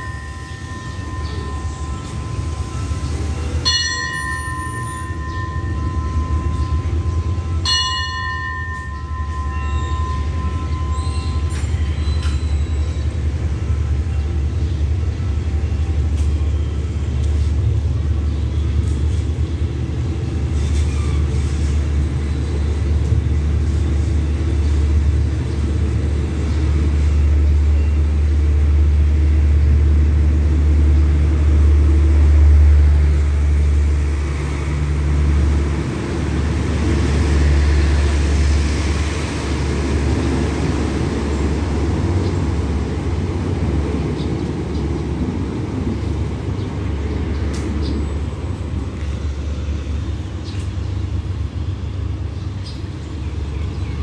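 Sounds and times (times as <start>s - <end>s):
train coaches rumbling past: 0.0s - 54.0s.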